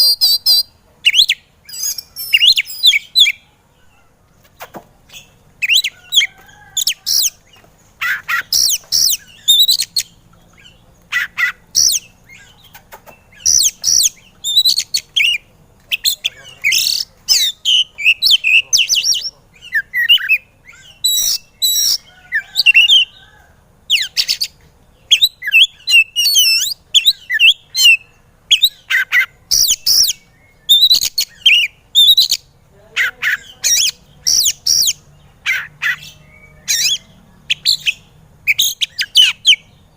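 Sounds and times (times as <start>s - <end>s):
bird whistling and chattering: 0.0s - 3.4s, 4.6s - 7.4s, 8.0s - 23.2s, 23.9s - 39.7s.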